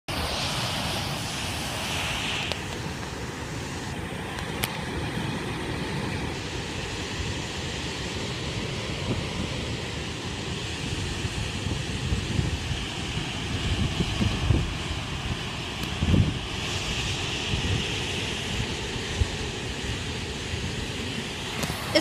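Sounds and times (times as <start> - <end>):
water rushing over a spillway: 0.1 - 22.0
wind buffeting microphone: 0.1 - 22.0.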